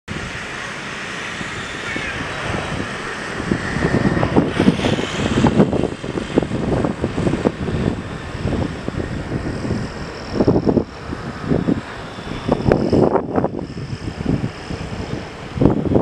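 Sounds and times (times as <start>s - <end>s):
jet engines rumbling: 0.1s - 16.0s
wind buffeting microphone: 0.1s - 16.0s.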